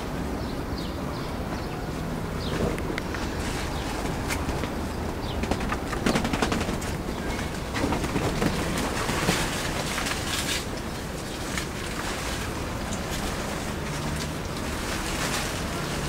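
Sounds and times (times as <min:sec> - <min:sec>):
leaves rustling and crackling: 0:01.8 - 0:16.0.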